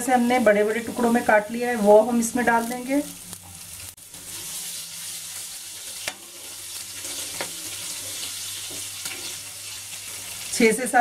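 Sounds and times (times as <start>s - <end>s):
chillies sizzling in hot oil: 0.0s - 11.0s.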